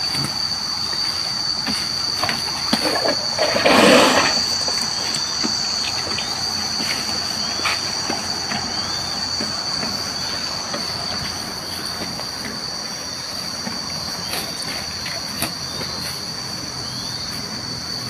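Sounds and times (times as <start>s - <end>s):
insects shrilling: 0.0s - 18.0s.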